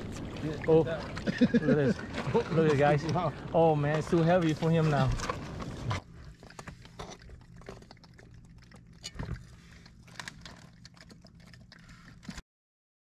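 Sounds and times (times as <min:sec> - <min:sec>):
crabs clicking and scraping: 0:00.0 - 0:12.4
low steady hum: 0:00.0 - 0:12.4.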